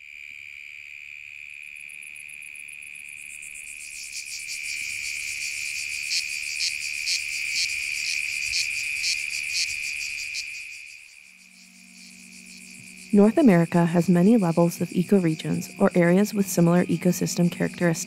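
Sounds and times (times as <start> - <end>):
cicadas singing in chorus: 0.0 - 18.0.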